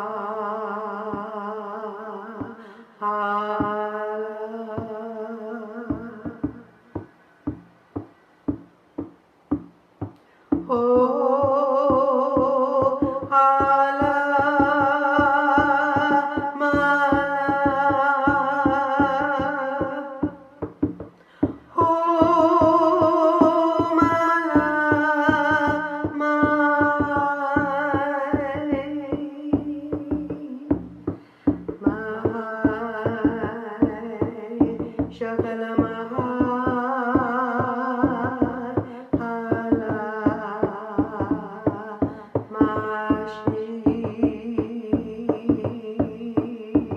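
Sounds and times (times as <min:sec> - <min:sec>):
wordless chanting with vibrato: 0:00.0 - 0:07.2, 0:10.5 - 0:20.7, 0:21.3 - 0:46.9
fast steady drumbeat: 0:05.9 - 0:46.9.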